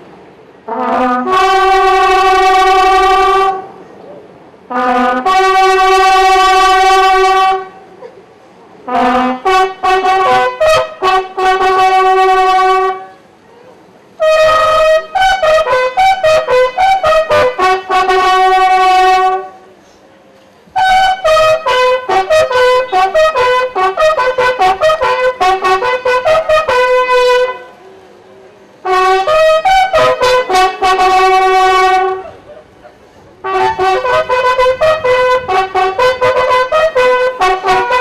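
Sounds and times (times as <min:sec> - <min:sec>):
bugle call: 0:00.7 - 0:03.8, 0:04.7 - 0:07.9, 0:08.9 - 0:13.2, 0:14.2 - 0:19.6, 0:20.8 - 0:27.8, 0:28.8 - 0:38.0.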